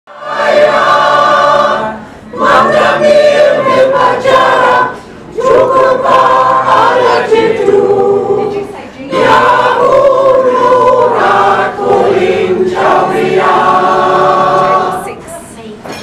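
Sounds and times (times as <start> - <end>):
mixed choir singing: 0.1 - 15.4.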